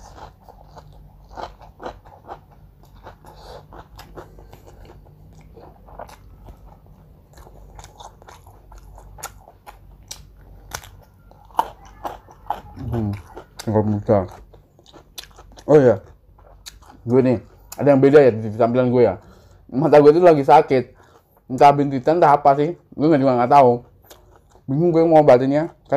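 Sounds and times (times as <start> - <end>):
chewing crisp food: 0.0 - 19.6, 20.9 - 25.9.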